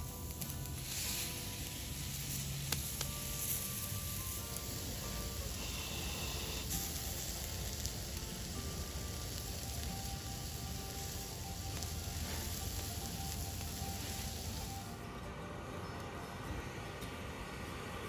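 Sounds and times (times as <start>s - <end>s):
meat sizzling on a griddle: 0.0s - 15.0s.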